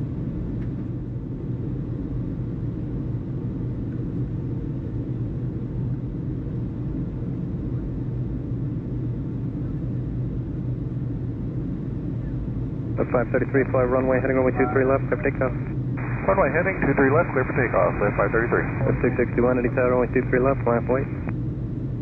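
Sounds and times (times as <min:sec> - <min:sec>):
airport background rumble: 0:00.1 - 0:22.0.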